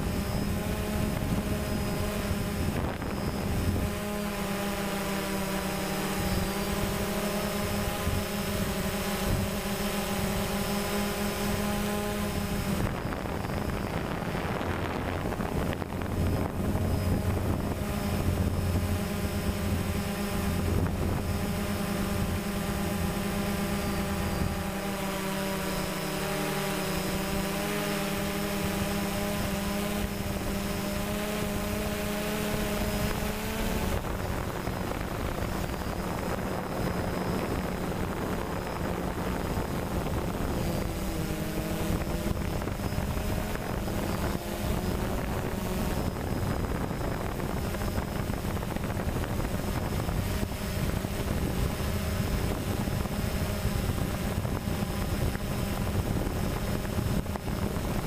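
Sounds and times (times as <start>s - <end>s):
drone propellers humming: 0.0s - 58.0s
wind rushing over microphone: 0.0s - 58.0s.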